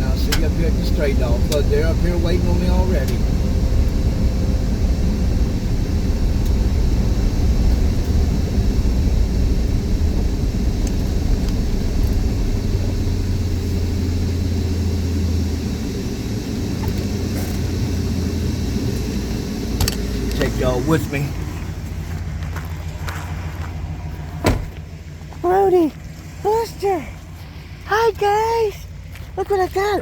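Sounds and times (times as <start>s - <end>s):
steady drone: 0.0s - 29.5s
car engine and road rumble: 0.0s - 30.0s.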